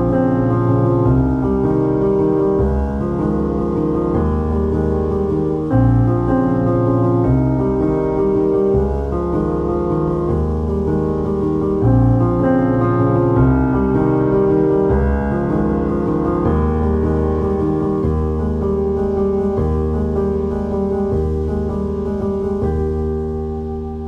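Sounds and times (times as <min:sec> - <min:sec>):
piano piece: 0:00.0 - 0:24.0.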